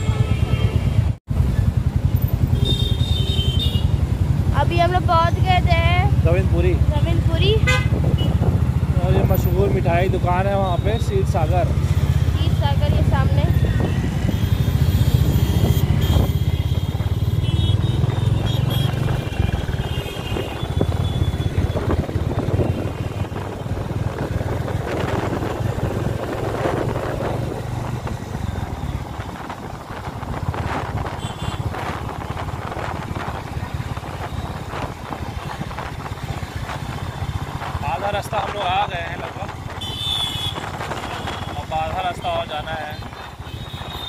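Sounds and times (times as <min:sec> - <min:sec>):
motorcycle engine running: 0:00.0 - 0:41.9
road and wind noise: 0:00.0 - 0:44.0
traffic: 0:00.0 - 0:44.0.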